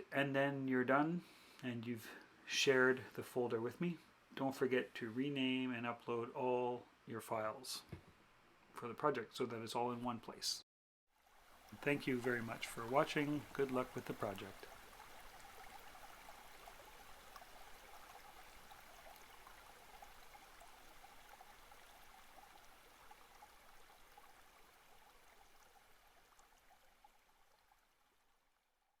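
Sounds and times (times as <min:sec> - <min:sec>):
faint hiss: 0:00.0 - 0:09.0, 0:11.3 - 0:25.8.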